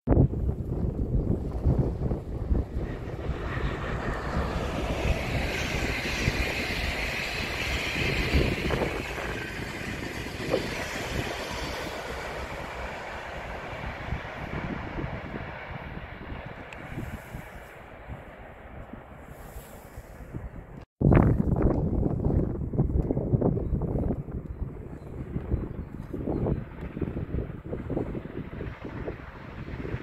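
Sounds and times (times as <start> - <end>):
wind buffeting microphone: 0.1 - 30.0
high-speed train passing: 0.2 - 20.8, 22.0 - 30.0.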